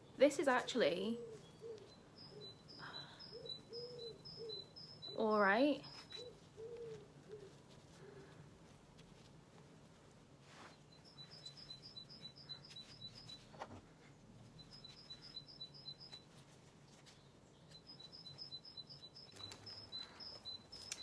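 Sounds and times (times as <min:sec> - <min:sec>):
small bird chirping: 0:00.0 - 0:08.3, 0:10.5 - 0:21.0.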